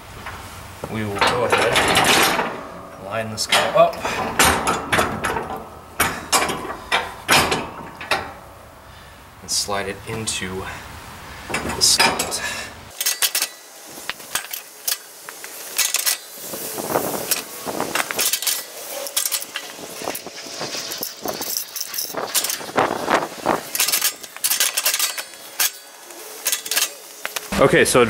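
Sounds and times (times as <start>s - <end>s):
metal frame and chain clanking: 0.0s - 10.6s, 11.3s - 27.6s.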